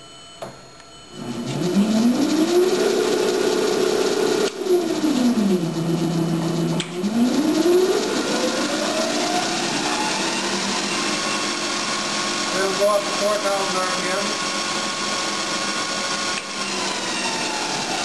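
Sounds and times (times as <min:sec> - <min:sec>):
electric motor whining: 0:01.2 - 0:18.0.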